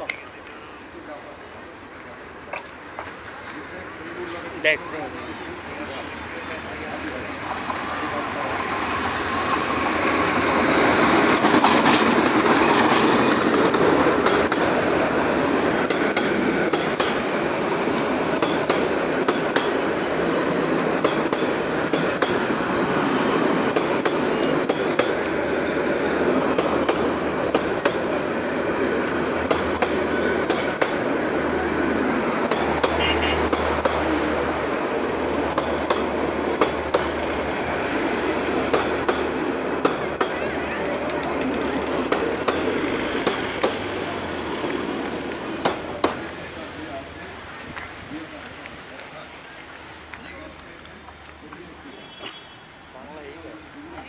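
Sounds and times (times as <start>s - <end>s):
train wheels rumbling on rails: 0.0s - 54.0s
wheels clicking over rail joints: 6.5s - 52.4s.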